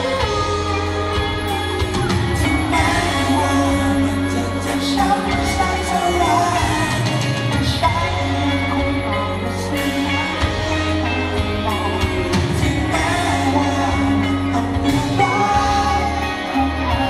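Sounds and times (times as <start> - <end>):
drums: 0.0 - 17.0
guitar notes: 0.0 - 17.0
live band playing: 0.0 - 17.0
person singing: 0.0 - 17.0
steady bass: 0.0 - 17.0.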